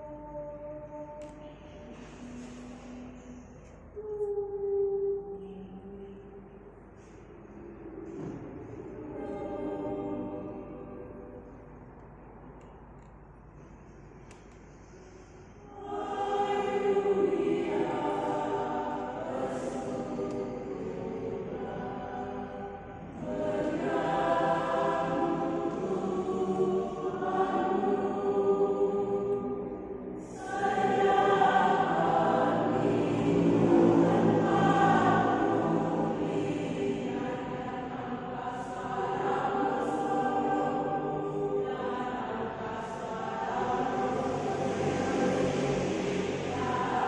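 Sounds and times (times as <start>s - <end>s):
choir singing harmonies: 0.0s - 12.7s, 13.5s - 47.0s.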